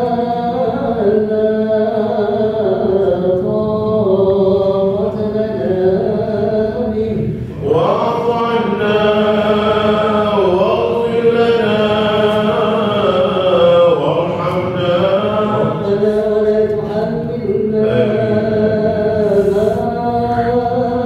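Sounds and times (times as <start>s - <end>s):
unaccompanied religious chanting: 0.0s - 21.0s.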